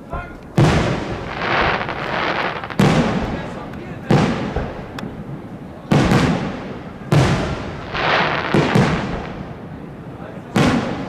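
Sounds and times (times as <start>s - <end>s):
firework shells bursting: 0.3s - 11.0s.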